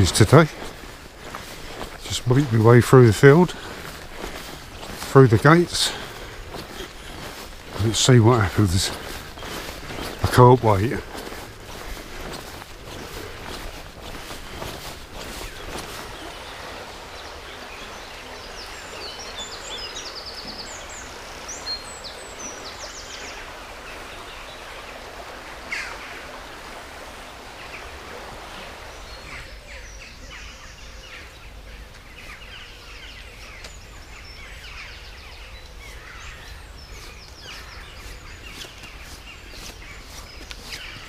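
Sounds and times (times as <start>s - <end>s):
small birds chirping: 0.0s - 26.0s, 28.8s - 41.0s.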